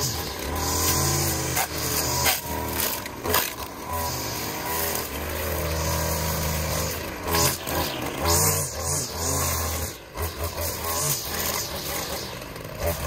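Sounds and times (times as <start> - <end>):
string trimmer engine revving: 0.0 - 13.0.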